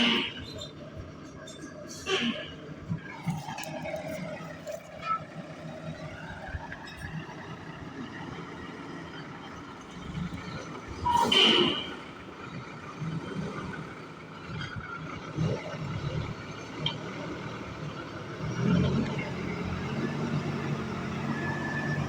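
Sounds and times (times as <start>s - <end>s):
diesel truck engines running: 0.0s - 22.0s.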